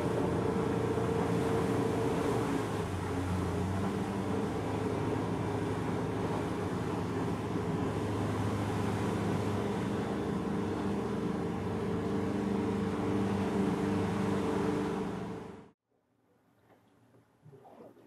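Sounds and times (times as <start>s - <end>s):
boat engine running: 0.0s - 15.7s.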